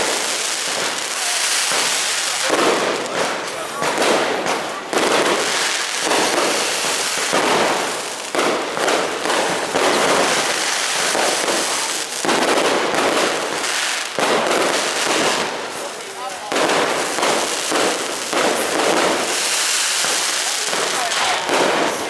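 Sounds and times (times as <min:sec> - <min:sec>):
fireworks cracking and banging: 0:00.0 - 0:22.0.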